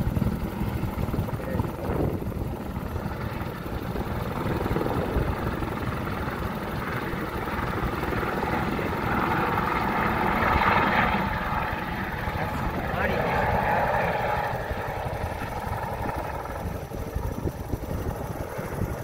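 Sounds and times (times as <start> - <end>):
helicopter rotor chop: 0.0 - 19.0
turbine whine: 0.0 - 19.0.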